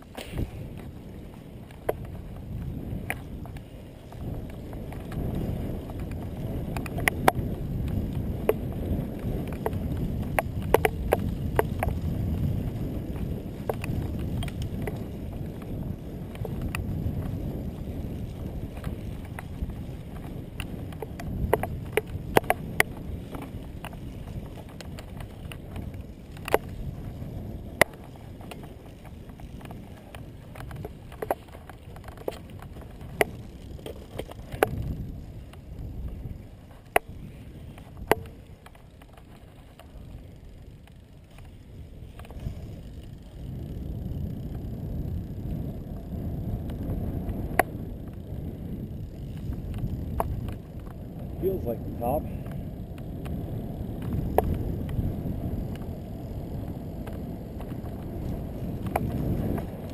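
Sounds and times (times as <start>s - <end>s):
bicycle tyre rumble on asphalt: 0.0s - 59.9s
wind on microphone: 0.0s - 59.9s.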